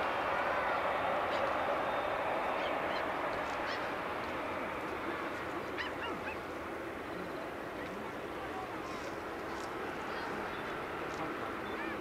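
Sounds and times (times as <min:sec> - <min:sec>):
distant jet engines roaring: 0:00.0 - 0:12.0.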